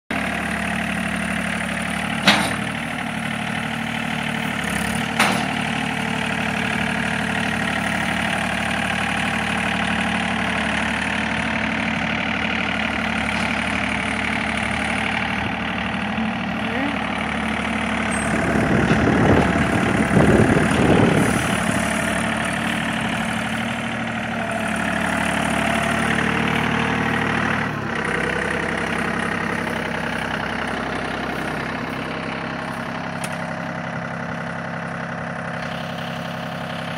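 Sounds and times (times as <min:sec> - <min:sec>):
tractor diesel engine running: 0:00.1 - 0:36.9.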